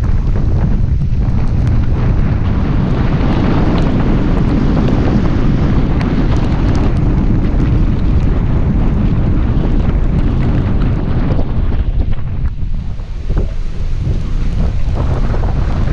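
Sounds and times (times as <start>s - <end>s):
raindrops tapping camera: 0.0s - 15.9s
wind buffeting microphone: 0.0s - 15.9s.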